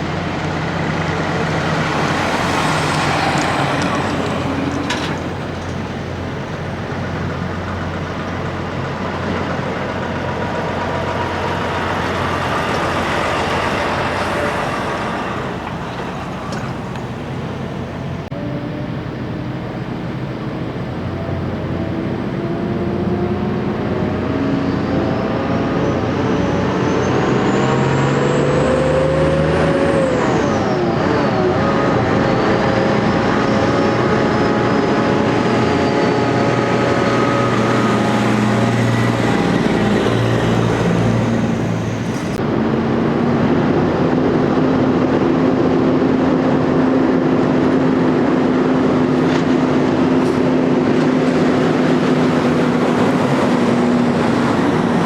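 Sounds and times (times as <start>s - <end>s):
steady engine drone: 0.0s - 55.0s
trucks running past: 0.0s - 55.0s.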